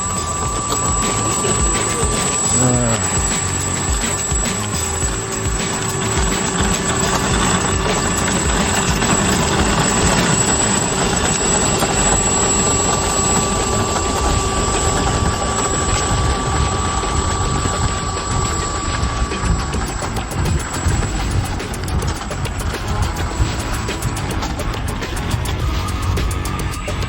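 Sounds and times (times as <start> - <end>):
model plane motor and propeller drone: 0.0 - 27.0.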